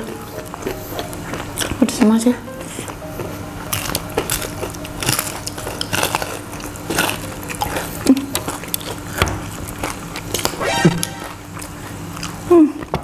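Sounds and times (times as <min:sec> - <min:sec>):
chewing fried chicken: 0:00.0 - 0:10.6, 0:11.4 - 0:13.0.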